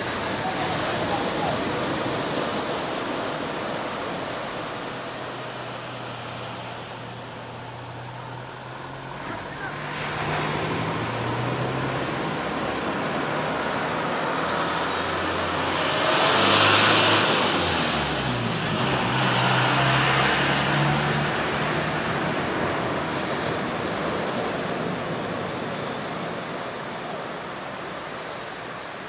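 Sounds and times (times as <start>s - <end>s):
surf breaking on beach: 0.0s - 7.2s, 8.8s - 29.0s.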